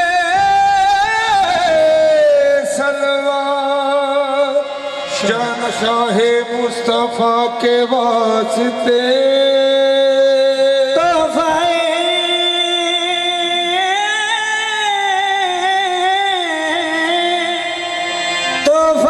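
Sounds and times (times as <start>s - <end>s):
harmonium: 0.0s - 19.0s
man singing long wavering notes: 0.0s - 19.0s.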